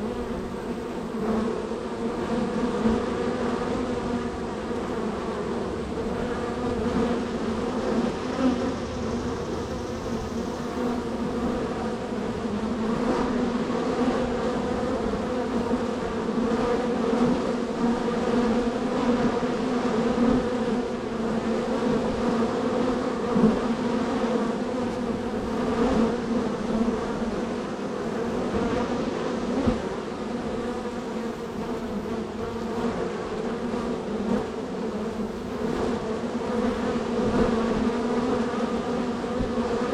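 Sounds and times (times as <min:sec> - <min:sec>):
bees buzzing: 0:00.0 - 0:39.9
single bee flying close: 0:00.0 - 0:39.9.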